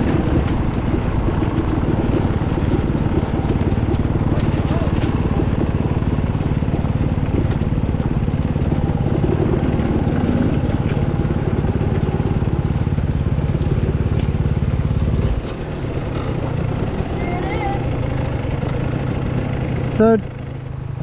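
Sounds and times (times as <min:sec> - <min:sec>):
dirt bike engine rumbling: 0:00.0 - 0:21.0.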